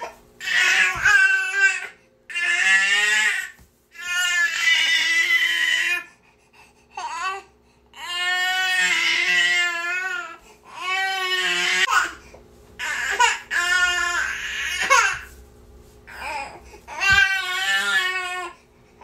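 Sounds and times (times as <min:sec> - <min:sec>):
infant crying: 0:00.0 - 0:06.1, 0:07.0 - 0:12.2, 0:12.8 - 0:15.3, 0:16.1 - 0:18.6.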